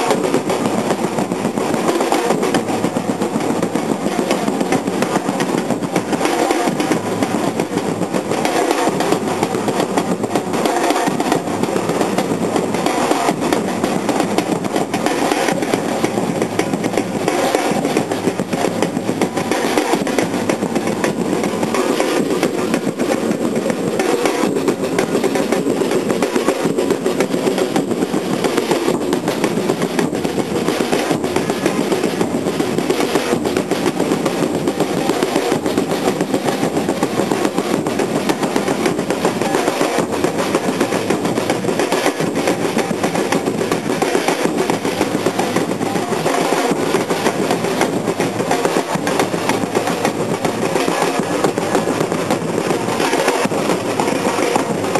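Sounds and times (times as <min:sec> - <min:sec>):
bass drums beating: 0:00.0 - 0:54.9
drum corps playing: 0:00.0 - 0:54.9.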